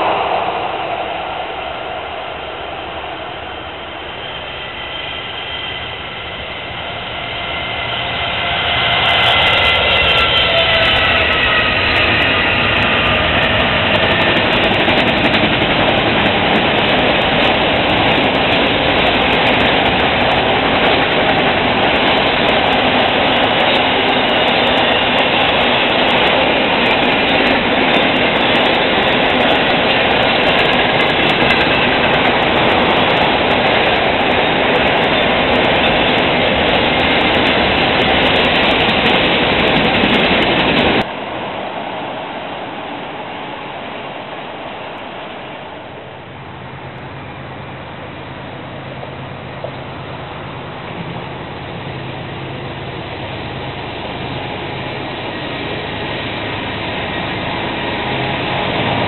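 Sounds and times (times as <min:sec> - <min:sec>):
train wheels rattling on rail: 0:00.0 - 0:59.0.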